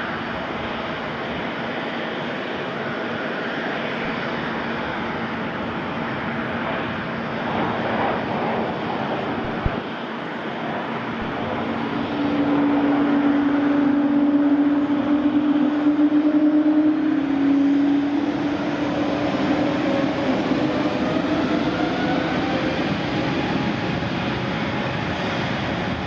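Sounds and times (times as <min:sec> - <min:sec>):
jet airliner engines passing: 0:00.0 - 0:26.0.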